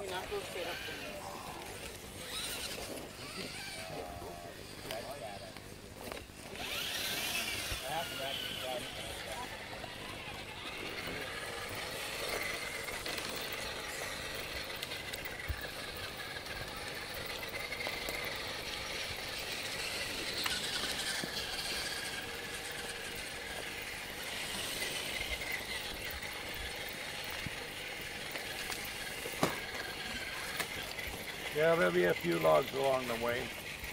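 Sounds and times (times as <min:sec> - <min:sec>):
rc truck motor whining: 0:00.0 - 0:33.9.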